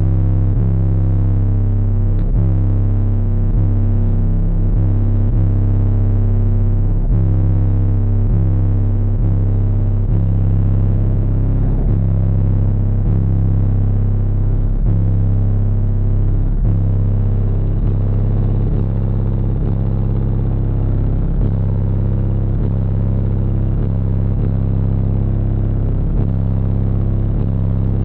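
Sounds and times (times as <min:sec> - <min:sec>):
bass-heavy music with thumping beat: 0:00.0 - 0:28.0.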